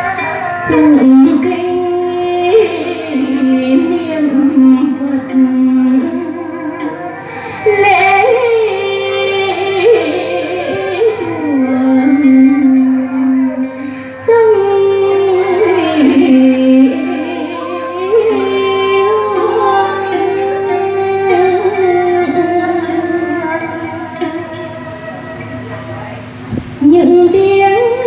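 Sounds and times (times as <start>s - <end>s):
musical accompaniment: 0.0s - 28.0s
slow sliding dance melody: 0.0s - 28.0s.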